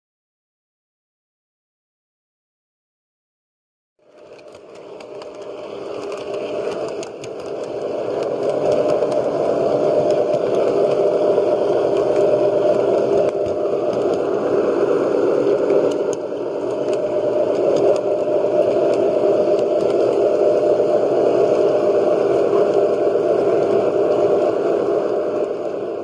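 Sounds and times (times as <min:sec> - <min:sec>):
model train motor and wheels: 0:04.0 - 0:26.0.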